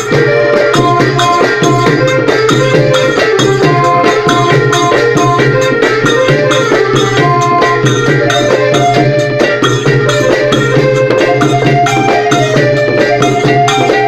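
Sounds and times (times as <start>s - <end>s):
hand-struck drums: 0.0s - 14.0s
held melody line: 0.0s - 14.0s
small percussion: 0.0s - 14.0s.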